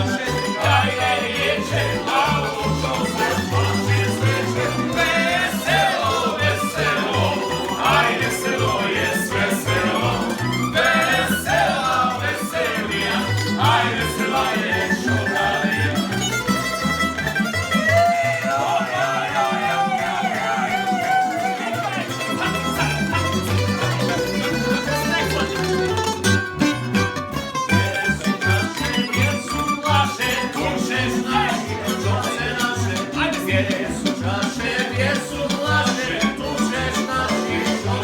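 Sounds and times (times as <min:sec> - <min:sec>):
plucked string ensemble folk music: 0:00.0 - 0:38.0.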